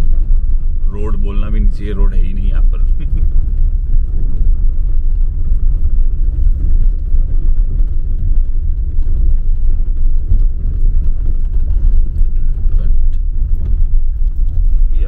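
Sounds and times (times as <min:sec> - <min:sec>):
tyres rumbling over rough road: 0:00.0 - 0:15.0.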